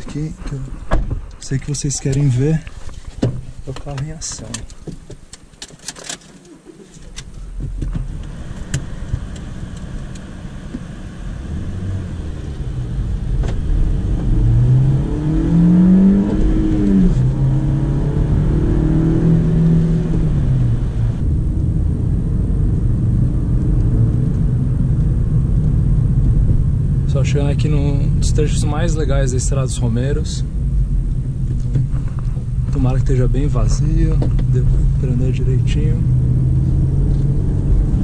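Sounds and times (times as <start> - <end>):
road rumble: 0.0 - 38.0
car engine from inside cabin: 6.4 - 38.0.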